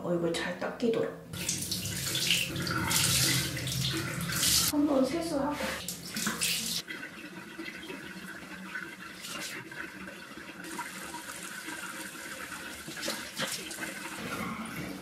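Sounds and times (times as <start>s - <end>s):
sink tap running: 1.4s - 14.2s.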